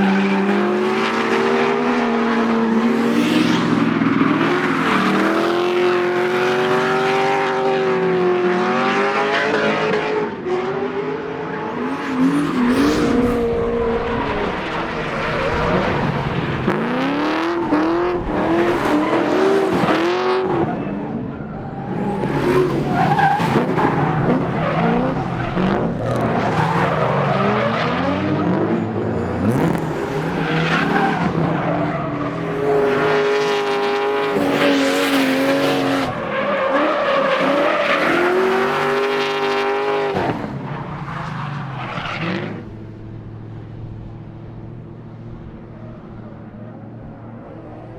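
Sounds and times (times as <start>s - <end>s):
tyres skidding and squealing: 0.0s - 8.1s, 8.8s - 43.5s.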